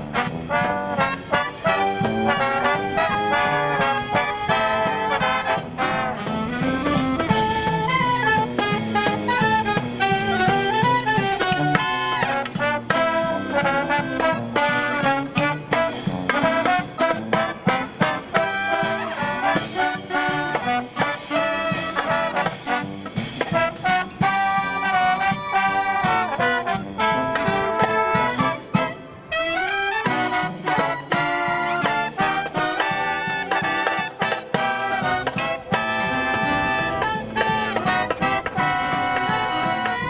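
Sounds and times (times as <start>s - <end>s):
marching brass band playing: 0.0s - 40.0s.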